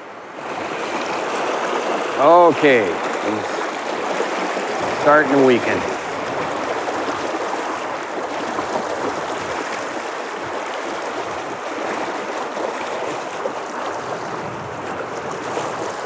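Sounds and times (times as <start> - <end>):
river water rushing over rocks: 0.0 - 16.0.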